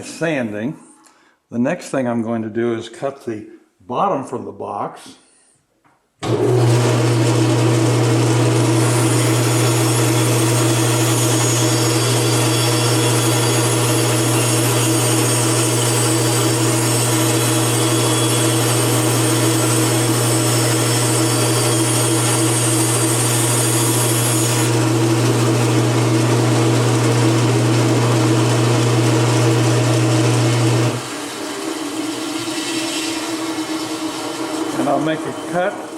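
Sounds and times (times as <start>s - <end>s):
bandsaw motor hum: 6.2s - 35.9s.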